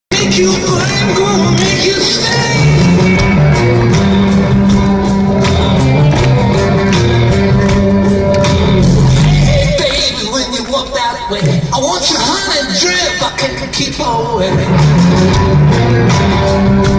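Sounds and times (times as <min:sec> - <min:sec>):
live rock band: 0:00.1 - 0:16.9.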